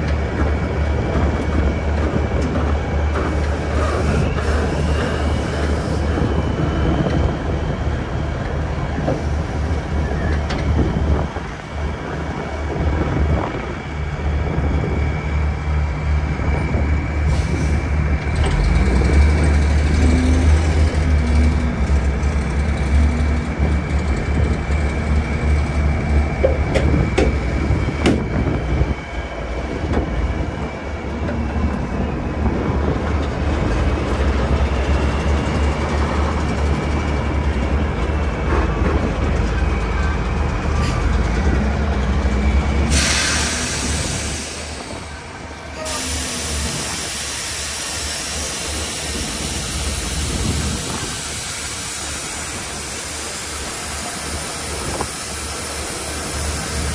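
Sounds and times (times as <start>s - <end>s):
heavy diesel engine rumbling: 0.0s - 56.9s.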